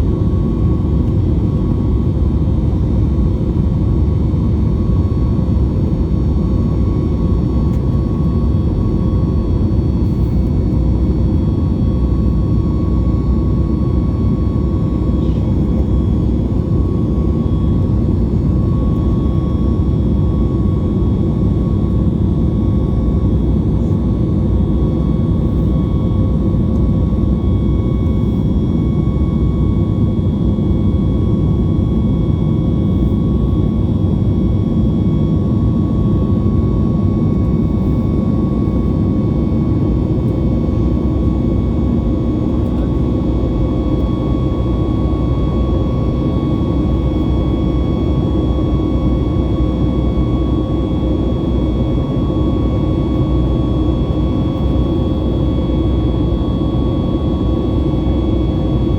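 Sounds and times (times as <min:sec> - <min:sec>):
jet engine roar in cabin: 0:00.0 - 0:58.9.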